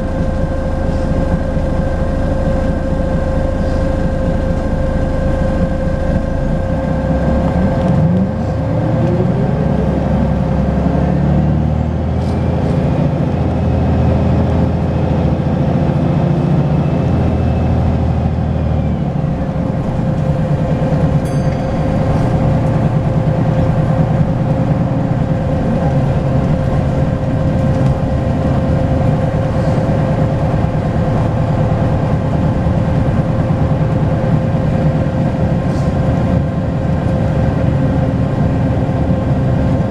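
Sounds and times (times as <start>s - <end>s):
bus engine whining: 0.0s - 39.9s.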